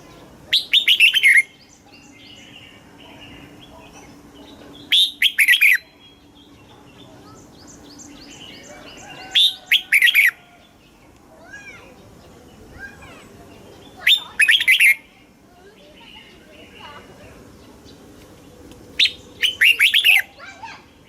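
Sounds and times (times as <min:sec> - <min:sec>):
faint bird chirps: 0:00.0 - 0:18.1, 0:18.9 - 0:20.8.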